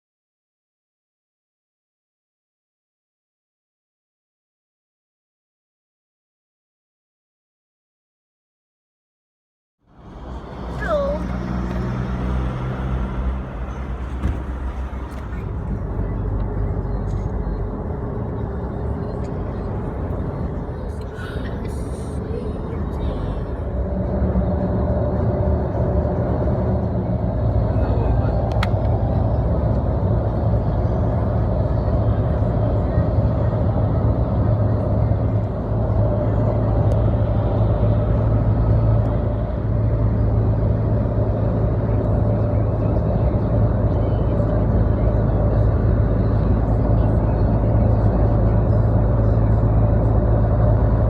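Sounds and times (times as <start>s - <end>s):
highway road noise drone: 9.8s - 51.0s
truck traffic rumble: 9.8s - 51.0s.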